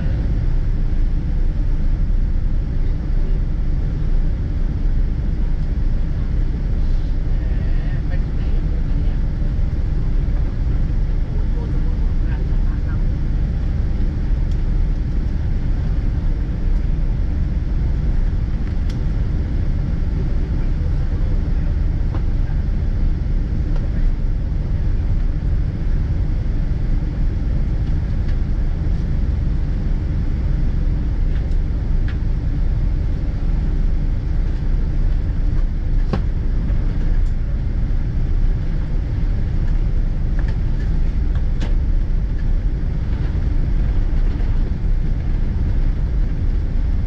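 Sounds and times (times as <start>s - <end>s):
airplane cabin rumble: 0.0s - 47.0s.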